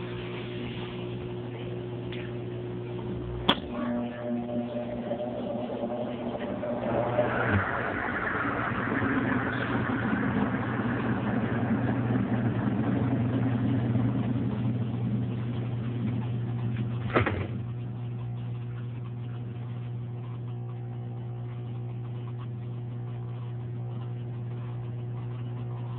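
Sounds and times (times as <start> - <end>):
washing machine motor hum: 0.0 - 25.9
washing machine churning: 3.6 - 25.9.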